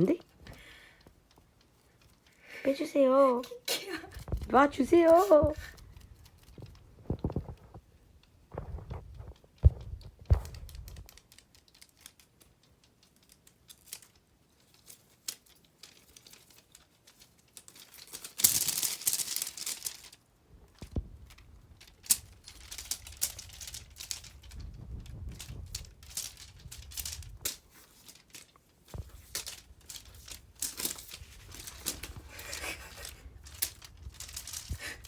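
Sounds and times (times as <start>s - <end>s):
rustling on crinkly material: 0.0s - 35.0s.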